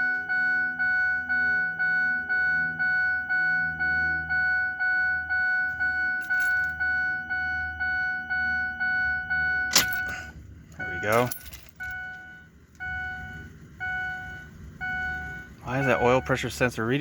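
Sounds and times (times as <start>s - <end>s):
vehicle warning chime dinging: 0.0s - 17.0s.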